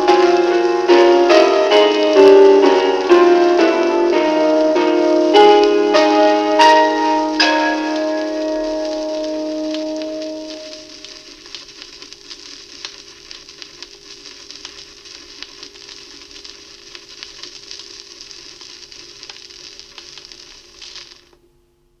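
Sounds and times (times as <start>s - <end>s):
faint steady hum: 0.0s - 22.0s
vinyl record crackling and hissing: 0.0s - 22.0s.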